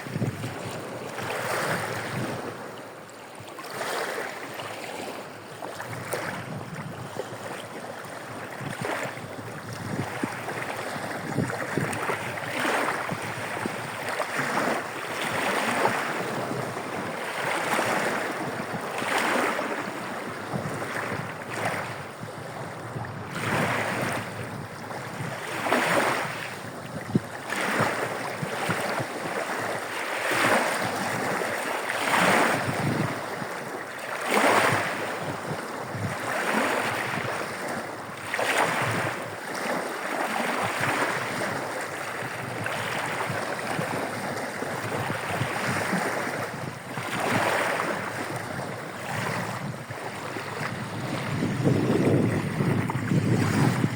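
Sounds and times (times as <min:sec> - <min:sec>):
small waves breaking on shore: 0:00.0 - 0:53.9.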